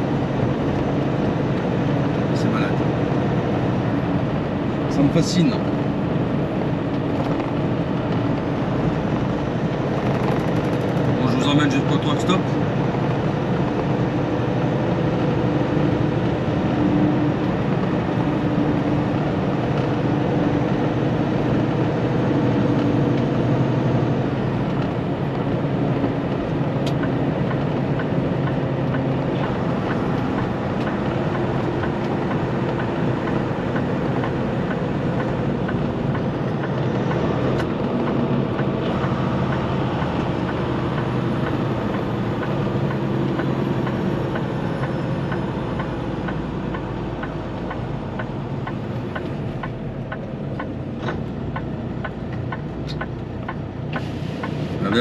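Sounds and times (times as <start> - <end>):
road noise: 0.0 - 55.0
truck diesel engine running: 0.0 - 55.0.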